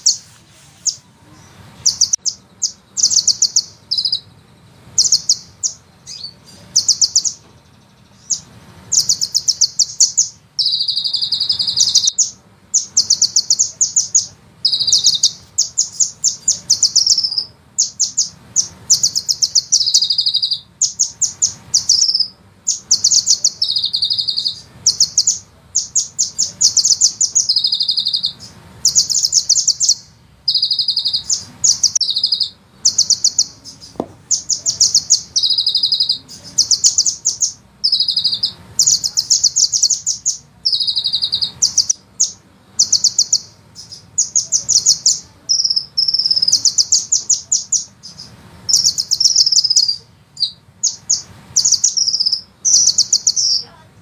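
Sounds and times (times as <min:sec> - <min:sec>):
bird trilling: 0:00.0 - 0:53.9.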